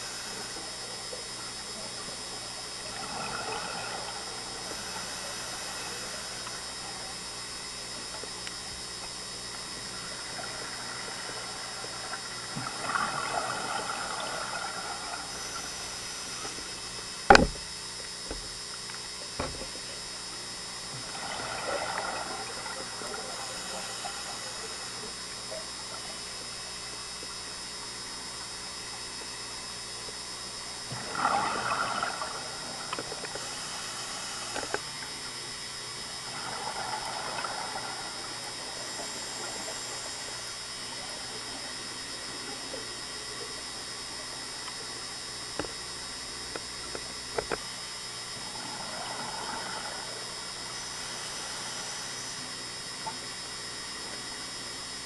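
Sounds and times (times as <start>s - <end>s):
regulator exhaust bubbling underwater: 0.0s - 55.0s
steady hiss: 0.0s - 55.0s.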